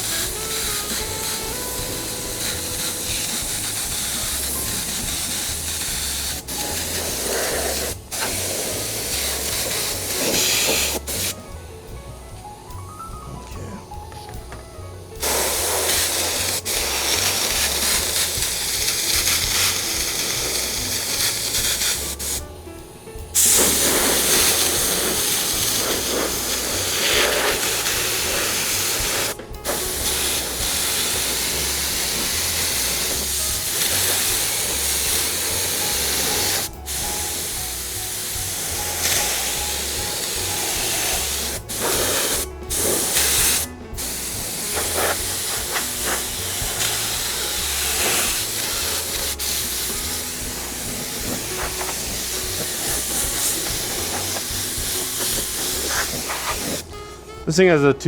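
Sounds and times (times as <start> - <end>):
spray gun hissing: 0.0 - 57.0.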